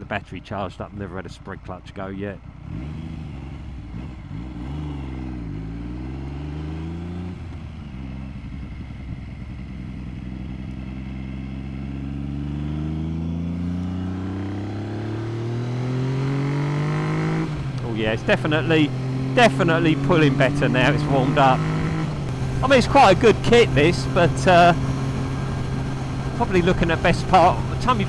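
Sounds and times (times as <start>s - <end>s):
motorcycle engine accelerating: 2.3s - 28.0s.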